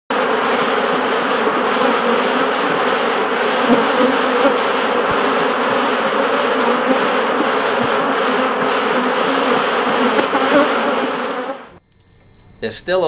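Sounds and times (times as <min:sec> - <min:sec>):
loud buzzing: 0:00.1 - 0:12.4.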